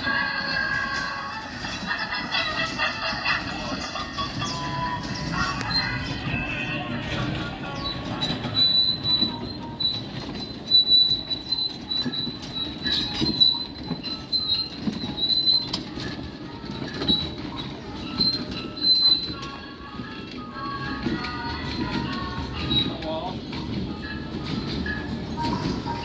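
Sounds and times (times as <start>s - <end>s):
clunks and rattles of wooden cars: 0.0s - 26.0s
high squeal of train wheels: 0.0s - 26.0s.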